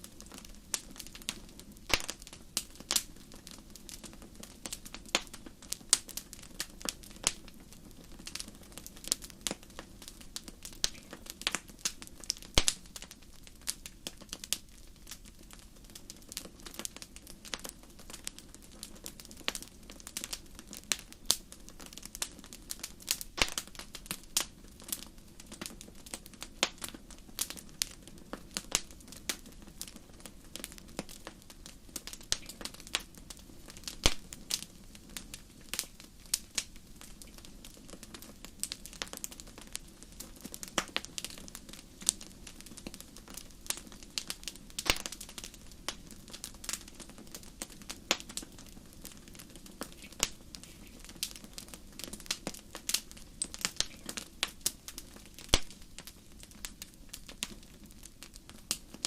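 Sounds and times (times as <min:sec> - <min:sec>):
fire popping and snapping: 0:00.0 - 0:59.0
low rumble of fire: 0:00.0 - 0:59.0.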